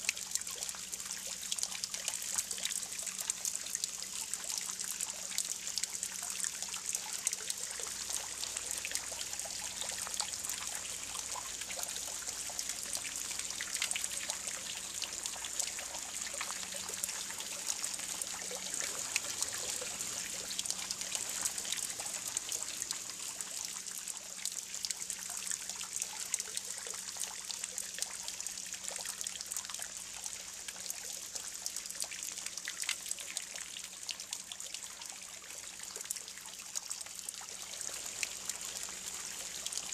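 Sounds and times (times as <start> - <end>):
fountain splashing into pond: 0.0 - 39.9.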